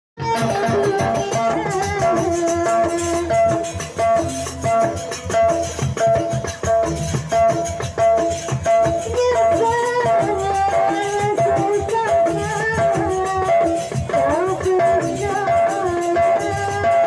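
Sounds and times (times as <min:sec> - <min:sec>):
drums: 0:00.2 - 0:17.0
shaken percussion: 0:00.2 - 0:17.0.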